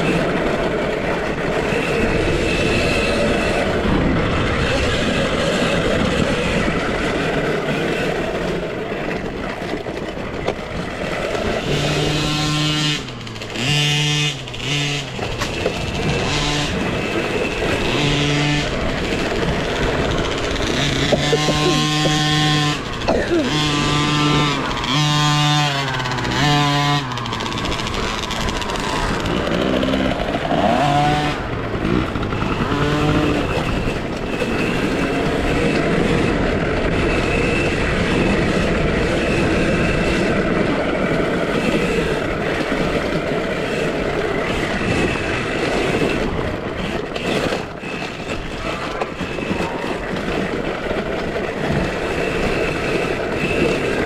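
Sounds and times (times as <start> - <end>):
electric motorbike whine: 0.0 - 54.0
wind and tyre noise: 0.0 - 54.0.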